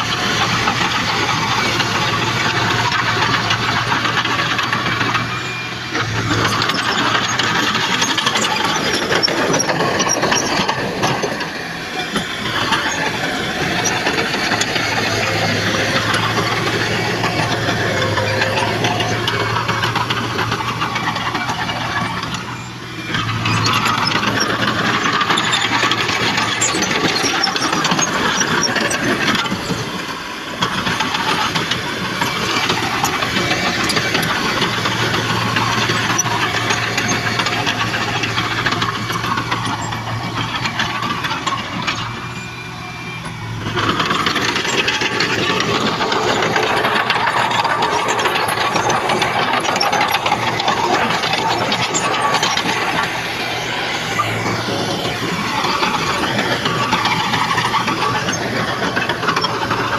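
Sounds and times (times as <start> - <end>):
diesel machinery engine drone: 0.0 - 59.9
mechanical clatter: 0.0 - 59.9.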